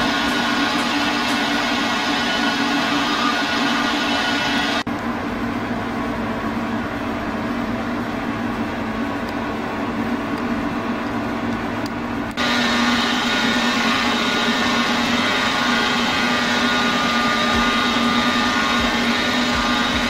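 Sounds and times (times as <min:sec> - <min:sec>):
metal lathe humming: 0:00.0 - 0:20.0.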